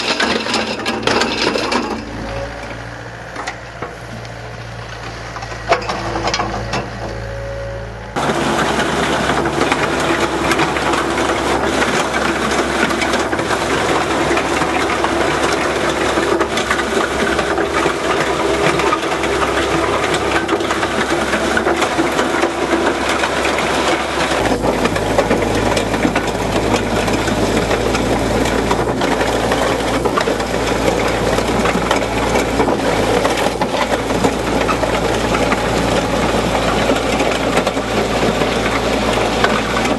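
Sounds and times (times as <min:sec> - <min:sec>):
gravel clattering in screening bucket: 0:00.0 - 0:02.5, 0:08.2 - 0:39.9
excavator diesel engine droning: 0:00.0 - 0:39.9.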